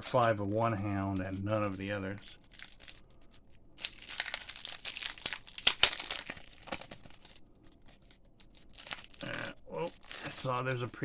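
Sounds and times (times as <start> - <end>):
wrapper being torn and crinkled: 1.3 - 11.0.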